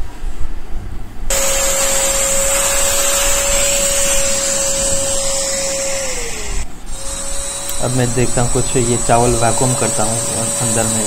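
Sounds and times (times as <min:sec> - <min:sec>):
handheld vacuum cleaner running: 0:01.3 - 0:11.0.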